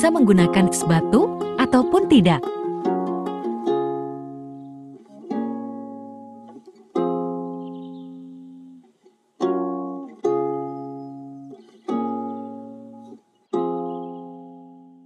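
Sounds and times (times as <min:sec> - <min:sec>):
strummed acoustic string chords: 0:00.0 - 0:15.0.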